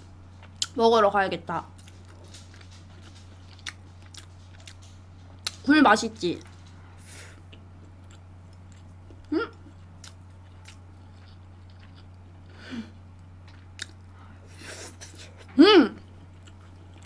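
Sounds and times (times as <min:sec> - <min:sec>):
steady low hum: 0:00.0 - 0:17.0
soft chewing and mouth sounds: 0:00.3 - 0:00.8, 0:01.5 - 0:17.0.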